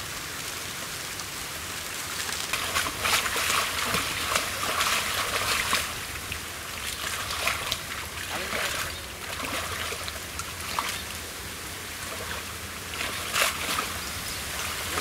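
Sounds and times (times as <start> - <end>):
muddy water splashing: 2.2 - 15.0.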